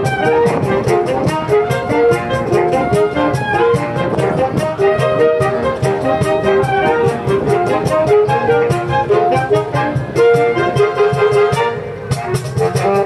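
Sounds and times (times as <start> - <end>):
cajon beating steady rhythm: 0.0 - 13.0
saxophone ensemble playing chords: 0.0 - 13.0.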